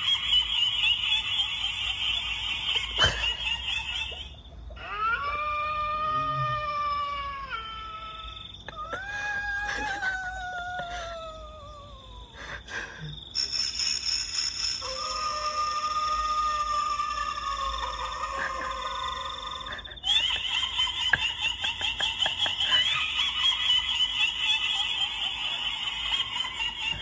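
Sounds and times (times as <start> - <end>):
ghostly wails: 0.0 - 12.0, 14.8 - 27.0.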